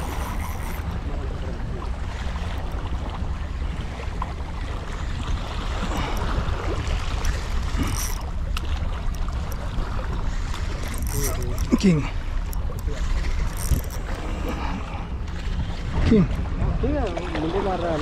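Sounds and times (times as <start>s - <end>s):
water lapping around boat: 0.0s - 18.0s
wind buffeting microphone: 0.0s - 18.0s.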